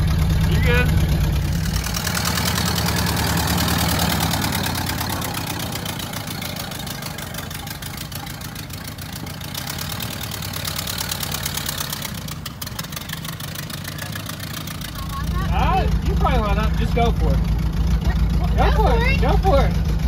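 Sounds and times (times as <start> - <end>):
car engine running at low speed: 0.0 - 20.0.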